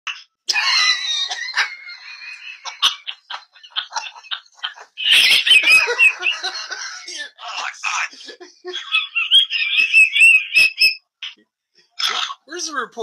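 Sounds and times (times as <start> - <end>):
parrot squawking: 0.1 - 8.1, 9.1 - 11.4, 12.0 - 12.5.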